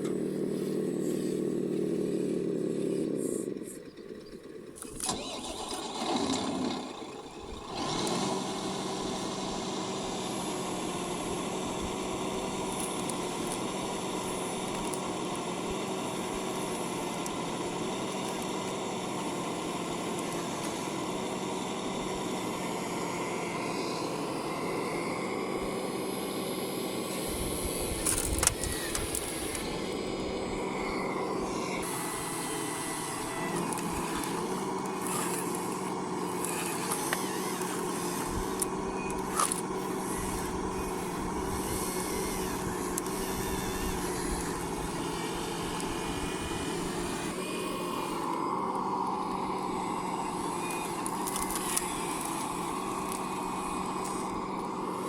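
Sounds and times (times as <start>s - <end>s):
model machines mechanical hum: 0.0s - 55.0s.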